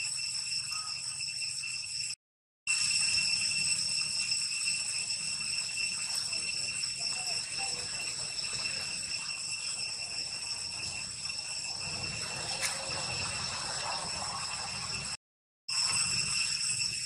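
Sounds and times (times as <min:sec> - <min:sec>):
shrill insect drone: 0:00.0 - 0:17.0.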